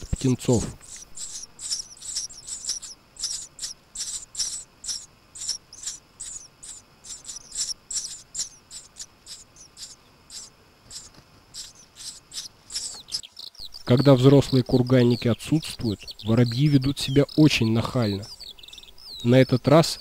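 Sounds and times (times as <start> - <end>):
sparrows chirping: 0.0 - 20.0.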